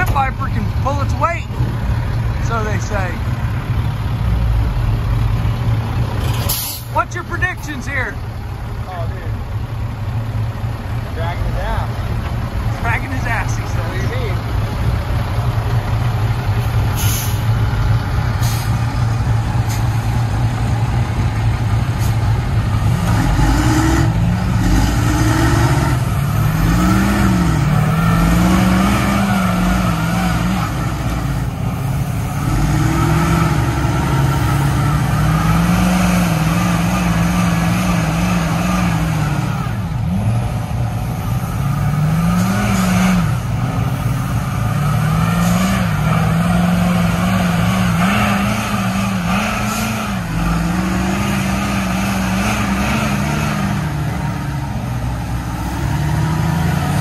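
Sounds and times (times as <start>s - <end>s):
diesel truck engines revving: 0.0s - 57.0s.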